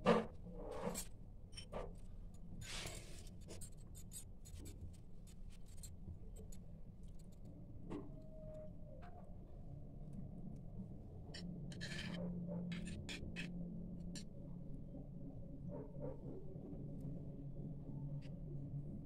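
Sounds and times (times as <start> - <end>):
low steady hum: 1.2 - 19.0.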